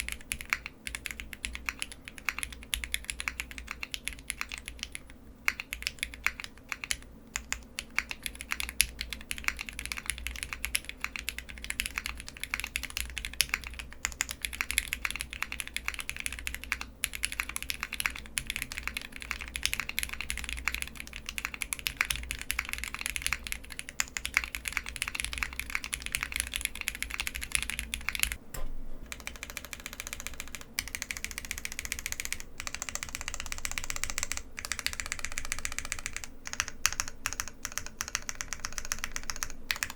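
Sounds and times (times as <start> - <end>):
mechanical keyboard typing: 0.0 - 28.4, 29.1 - 39.9.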